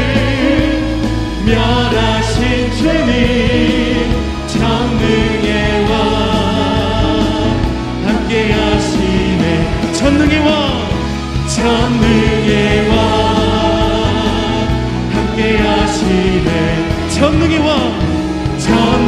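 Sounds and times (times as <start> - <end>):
congregation singing: 0.0 - 19.0
worship band playing: 0.0 - 19.0.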